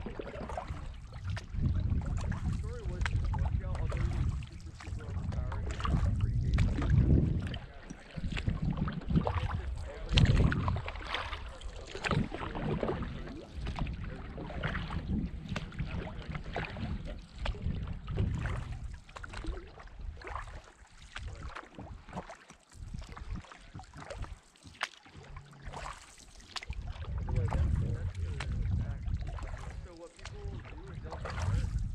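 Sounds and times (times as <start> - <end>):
wind gusts on microphone: 0.0 - 19.6, 22.8 - 24.3, 26.7 - 31.9
paddle splashing in water: 0.0 - 31.9.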